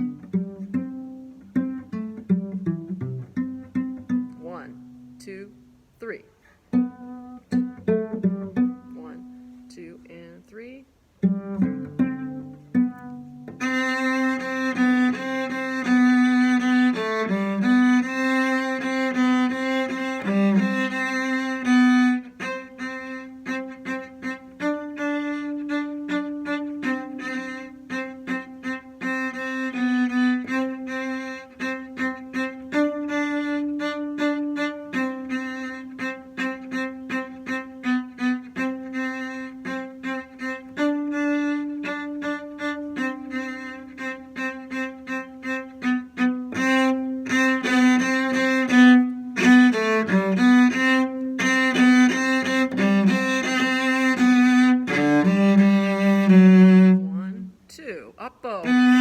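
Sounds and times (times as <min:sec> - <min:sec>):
cello playing slow melody: 0:00.0 - 0:10.3, 0:11.0 - 0:57.6, 0:58.6 - 0:59.0.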